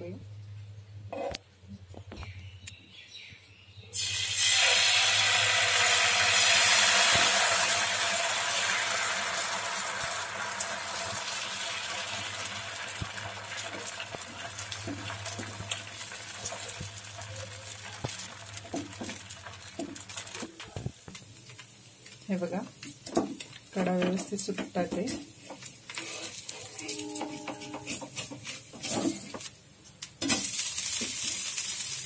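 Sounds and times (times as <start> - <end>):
batter sizzling on hot pan: 4.0 - 32.0.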